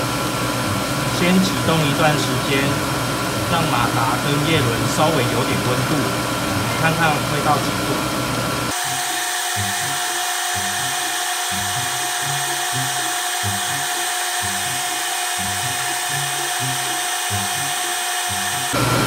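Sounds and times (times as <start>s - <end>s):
air blower rushing with whine: 0.0s - 19.0s.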